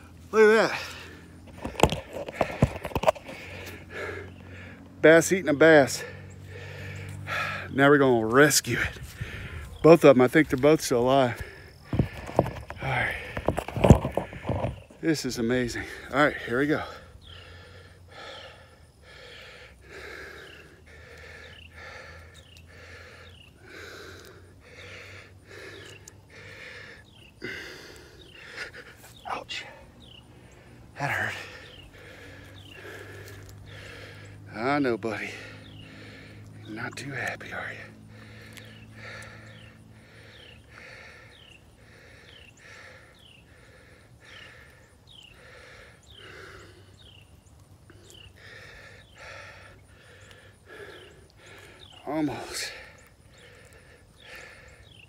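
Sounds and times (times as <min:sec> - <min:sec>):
man breathing heavily: 0:00.0 - 0:55.0.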